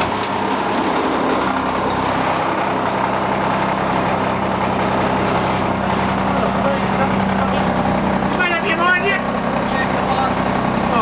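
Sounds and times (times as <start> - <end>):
small locomotive engine idling: 0.0 - 11.0.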